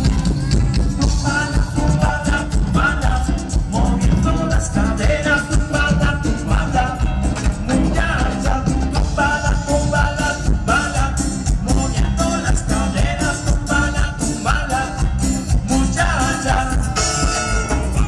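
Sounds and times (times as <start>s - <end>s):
drums: 0.0s - 18.0s
electric bass: 0.0s - 18.0s
keyboard melody: 0.0s - 18.0s
live band playing: 0.0s - 18.0s.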